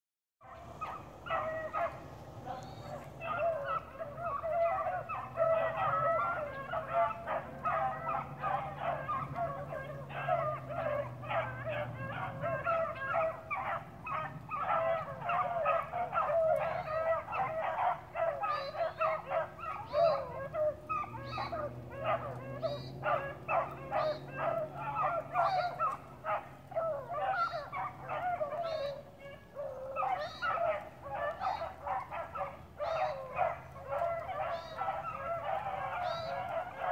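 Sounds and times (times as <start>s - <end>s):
hounds baying and yelping: 0.4s - 36.9s.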